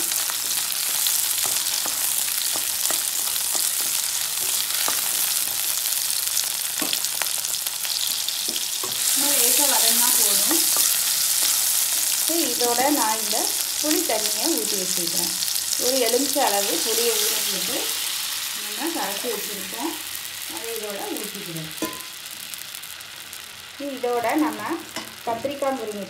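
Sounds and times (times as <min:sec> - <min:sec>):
vegetables sizzling in hot oil: 0:00.0 - 0:26.0.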